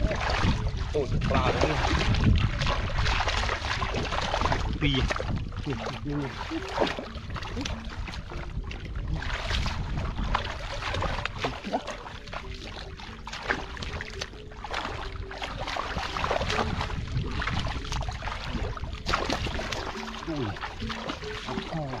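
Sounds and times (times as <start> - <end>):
hands splashing in muddy water: 0.0 - 22.0.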